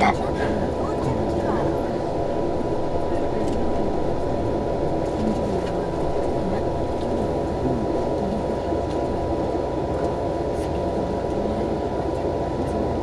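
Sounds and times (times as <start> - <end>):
equipment hum: 0.0 - 13.0
train cabin rolling noise: 0.0 - 13.0.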